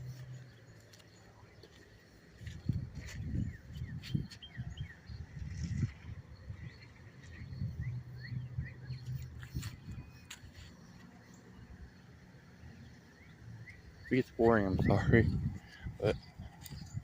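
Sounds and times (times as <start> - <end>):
birds chirping: 0.0 - 17.0
excavator engine rumble: 0.0 - 17.0.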